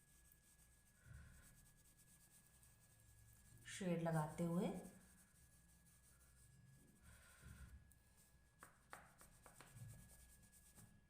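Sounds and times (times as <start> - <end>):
oil pastel scratching on paper: 0.0 - 11.0.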